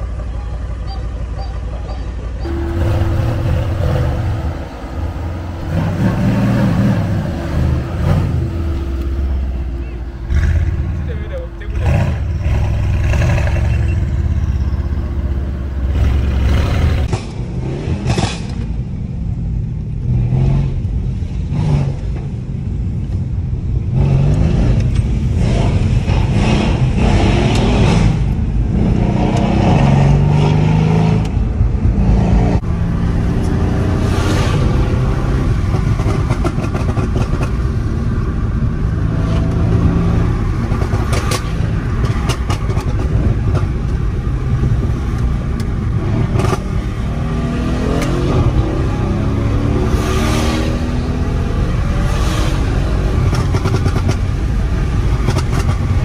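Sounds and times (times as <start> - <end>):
car engine revving: 2.4 - 18.6, 23.8 - 56.0.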